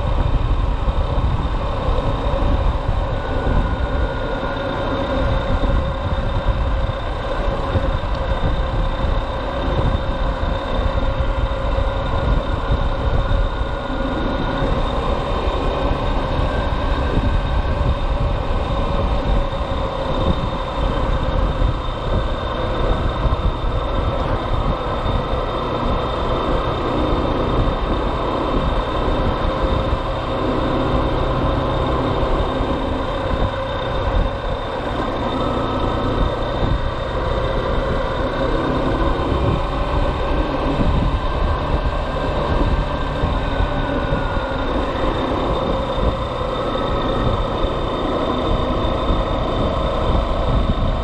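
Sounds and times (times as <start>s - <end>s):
faint whining tones: 0.0s - 51.0s
motorcycle engine rumble: 0.0s - 51.0s
road and wind noise: 0.0s - 51.0s.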